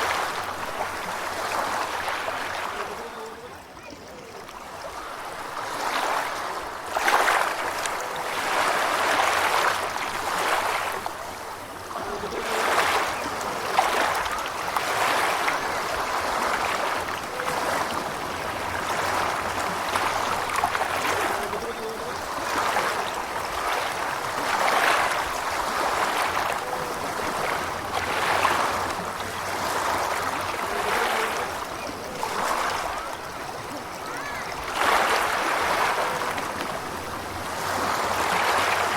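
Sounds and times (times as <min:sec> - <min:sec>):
ocean waves washing at shore: 0:00.0 - 0:38.9.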